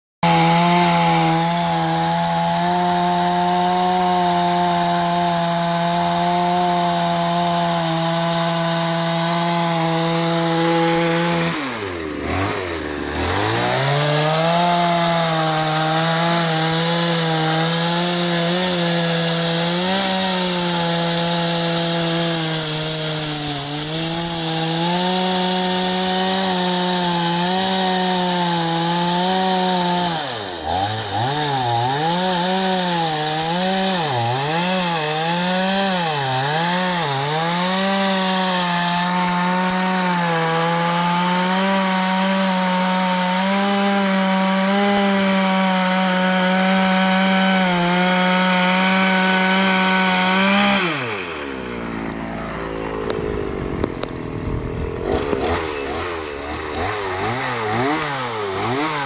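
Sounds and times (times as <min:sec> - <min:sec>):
chainsaw cutting wood: 0:00.2 - 0:59.0.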